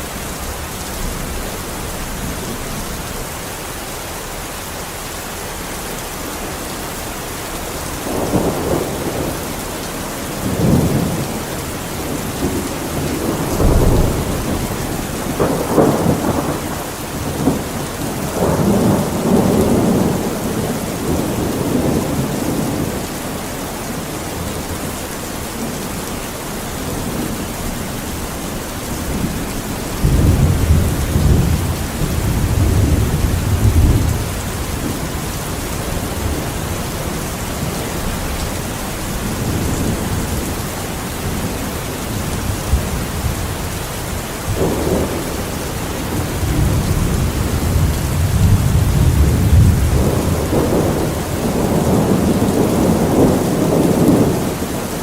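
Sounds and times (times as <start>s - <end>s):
steady rain: 0.0s - 55.0s
thunder rumbling: 7.4s - 55.0s.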